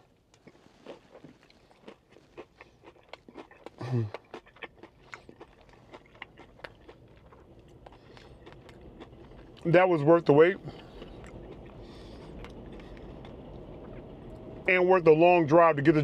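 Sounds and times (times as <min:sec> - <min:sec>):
crunchy chewing: 0:00.0 - 0:14.1.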